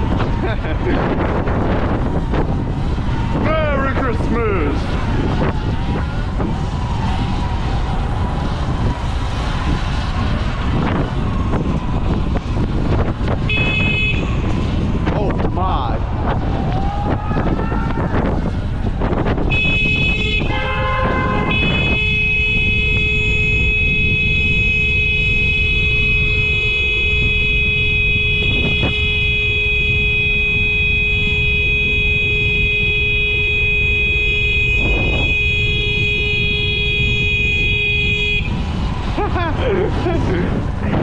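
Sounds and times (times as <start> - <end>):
road noise: 0.0 - 41.0
wind buffeting microphone: 0.0 - 41.0.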